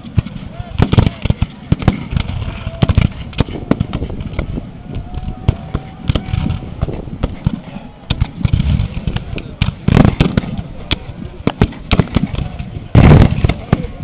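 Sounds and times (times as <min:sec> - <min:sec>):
muskets firing: 0:00.0 - 0:04.5, 0:05.4 - 0:14.0.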